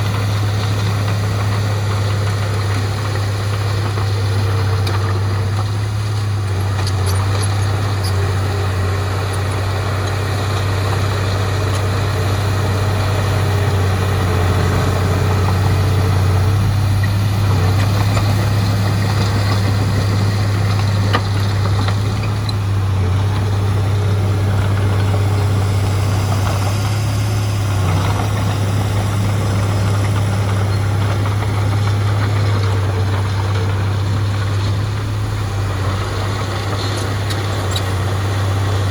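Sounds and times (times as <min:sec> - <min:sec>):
heavy diesel engine humming: 0:00.0 - 0:38.9.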